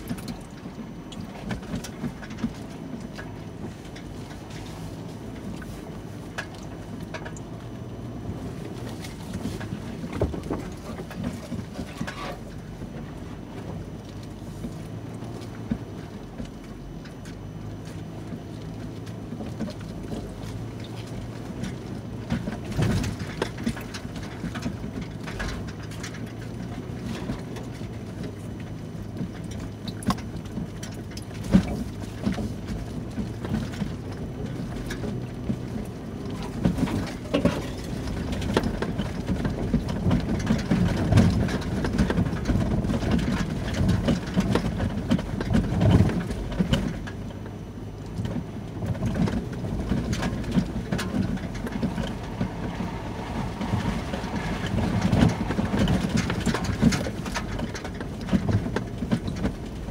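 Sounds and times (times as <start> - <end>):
car body bumps and rattles: 0.0 - 59.9
low engine hum: 0.0 - 59.9.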